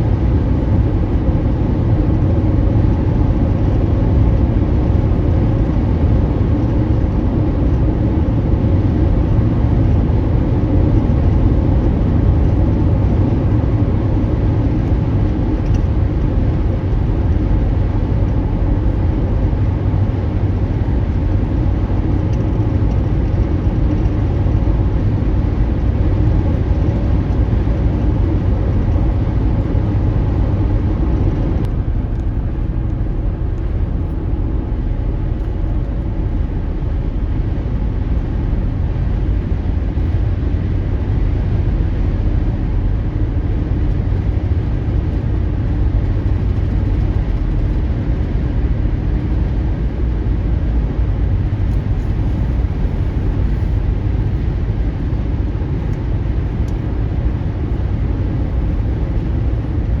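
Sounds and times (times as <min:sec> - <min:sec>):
car engine: 0:00.0 - 1:00.0.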